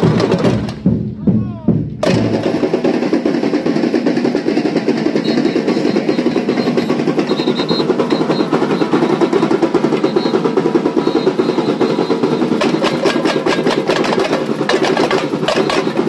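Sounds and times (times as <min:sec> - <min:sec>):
drums playing fast rhythm: 0:00.0 - 0:16.0.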